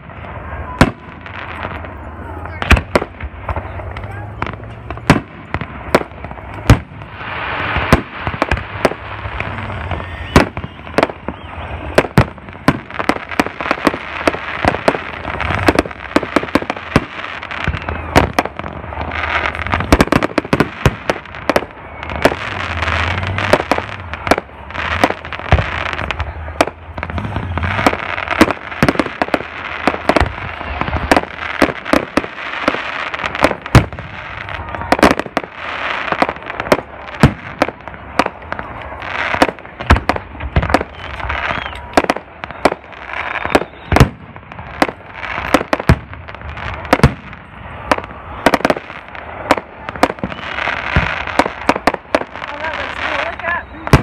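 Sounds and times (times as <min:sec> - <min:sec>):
fireworks bursting: 0:00.0 - 0:54.0
fireworks crackle: 0:00.0 - 0:54.0.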